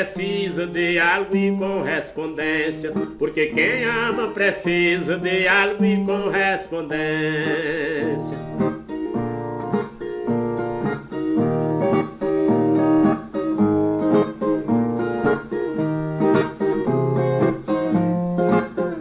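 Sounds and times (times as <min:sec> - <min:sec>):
plucked guitar melodic run: 0:00.0 - 0:19.0.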